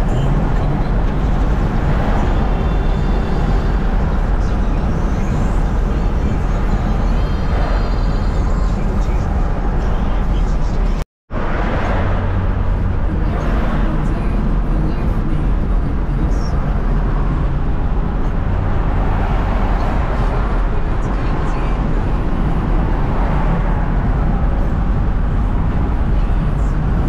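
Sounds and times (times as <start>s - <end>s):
tyre and engine rumble: 0.0s - 27.0s.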